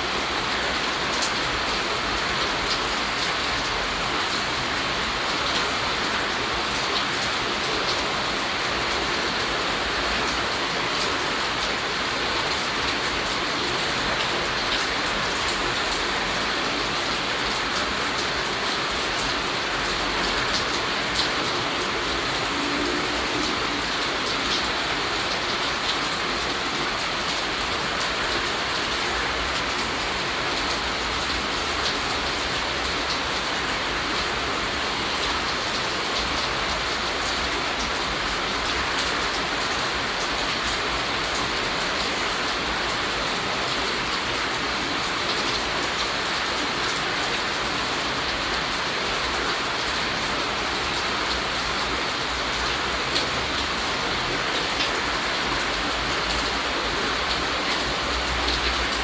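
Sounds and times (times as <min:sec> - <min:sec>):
rain pattering on surfaces: 0:00.0 - 0:59.0.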